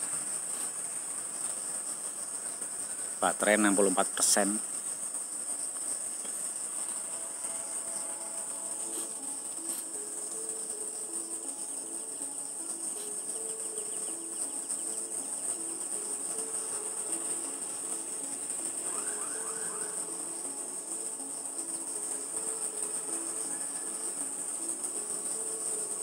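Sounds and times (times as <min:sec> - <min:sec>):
faint low stepping music: 0:00.0 - 0:26.0
insects trilling: 0:00.0 - 0:26.0
quick rising chirps: 0:04.7 - 0:26.0.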